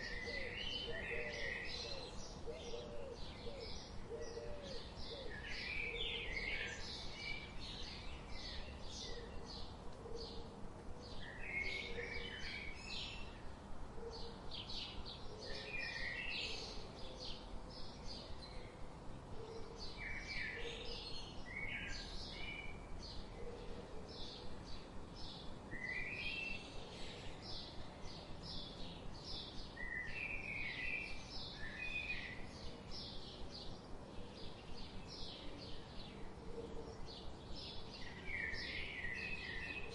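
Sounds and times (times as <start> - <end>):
lower bird song phrases: 0.0 - 39.9.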